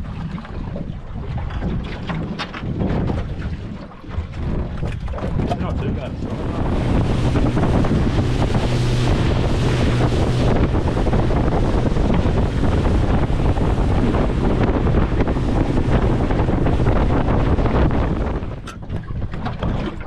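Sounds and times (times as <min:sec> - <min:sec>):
outboard motor droning: 0:00.0 - 0:20.0
water slapping along hull: 0:00.0 - 0:20.0
wind buffeting microphone: 0:00.0 - 0:20.0.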